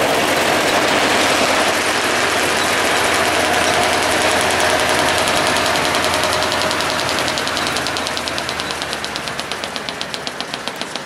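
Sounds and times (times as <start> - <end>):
diesel locomotive engine running: 0.0 - 11.0
fast even clatter: 0.0 - 11.0.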